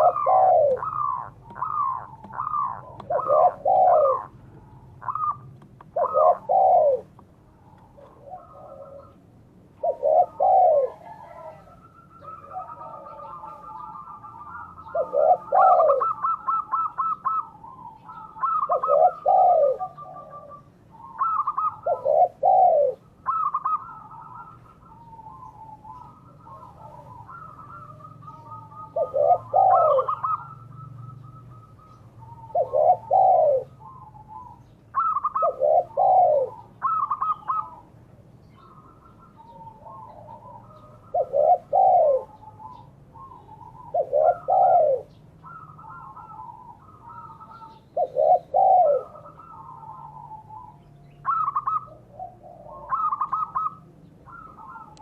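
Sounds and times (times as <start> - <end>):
higher trilled dove coos: 0.0 - 55.0
low doubled dove coos: 0.0 - 55.0.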